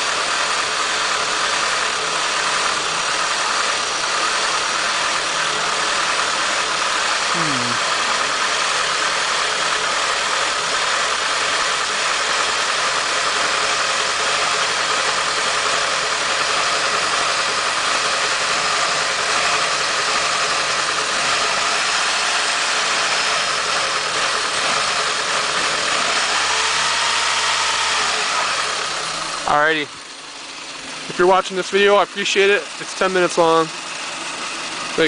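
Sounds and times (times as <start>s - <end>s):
car engine running with misfire: 0.0s - 35.0s.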